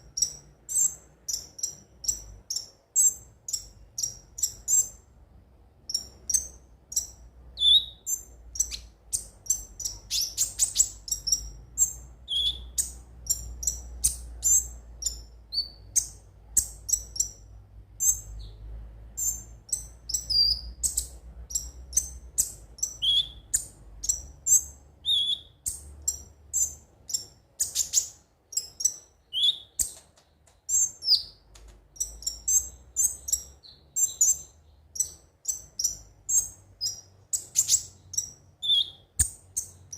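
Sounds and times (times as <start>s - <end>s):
bird chirping and twittering: 0.0s - 5.0s, 5.9s - 39.9s.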